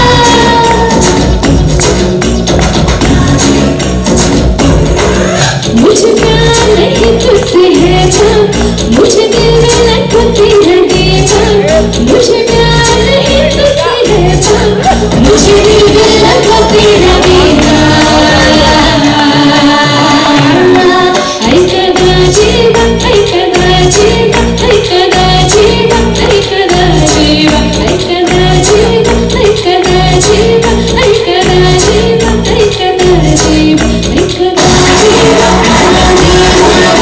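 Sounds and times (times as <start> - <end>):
woman singing into microphone: 0.0 - 1.9, 5.6 - 37.0
dance music backing track: 0.0 - 37.0.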